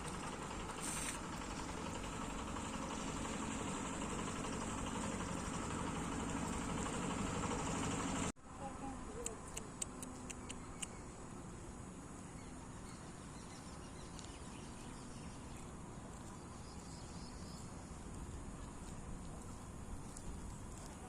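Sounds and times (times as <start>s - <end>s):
rural background noise: 0.0s - 21.0s.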